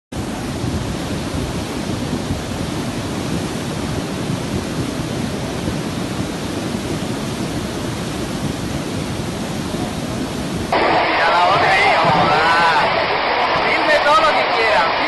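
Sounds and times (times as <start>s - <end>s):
floodwater rushing: 0.2s - 15.0s.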